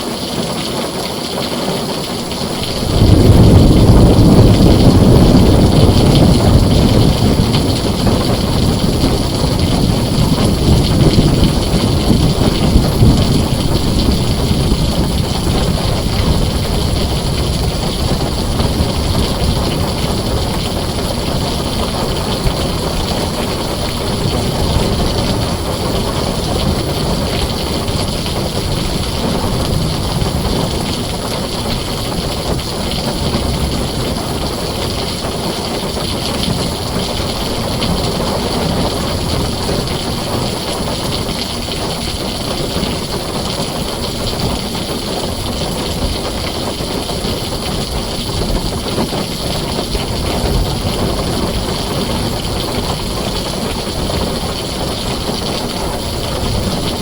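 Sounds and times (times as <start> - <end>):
heavy rain on a tin roof: 0.0 - 57.0
thunder rumbling: 1.6 - 57.0.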